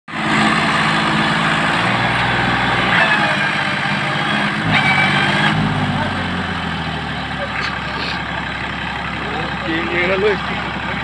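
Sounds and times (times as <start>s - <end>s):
tractor diesel engine revving: 0.1s - 11.0s.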